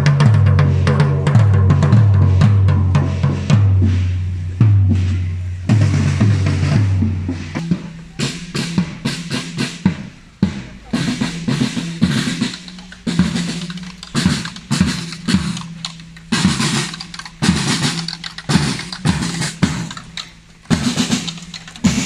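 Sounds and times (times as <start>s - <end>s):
marching snare drums: 0.0s - 22.0s.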